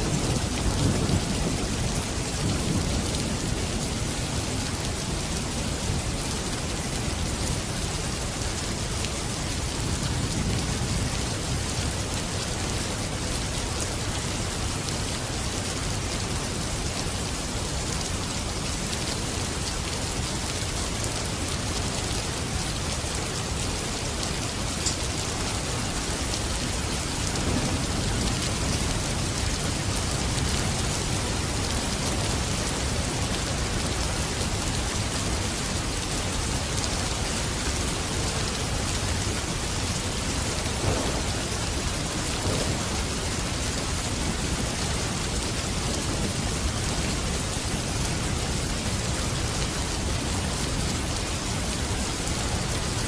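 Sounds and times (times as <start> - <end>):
rain falling on surfaces: 0.0 - 53.0.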